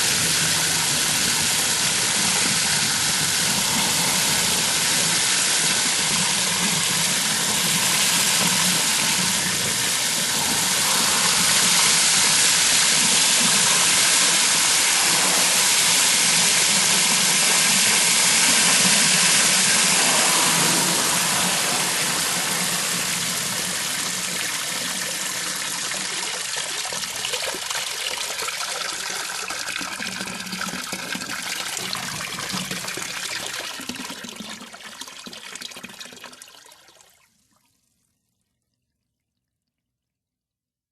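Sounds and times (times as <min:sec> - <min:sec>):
garden hose spraying water: 0:00.0 - 0:35.6.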